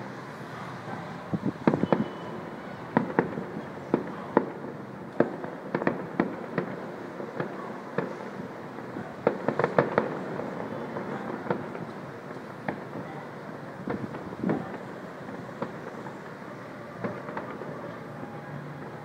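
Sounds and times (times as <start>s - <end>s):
fireworks bangs and pops: 1.4s - 19.0s.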